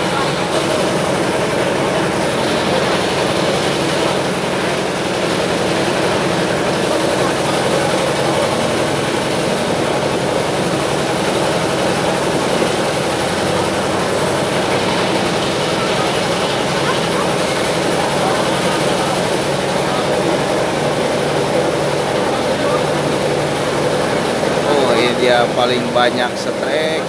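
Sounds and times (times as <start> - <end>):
motor droning: 0.0 - 27.0.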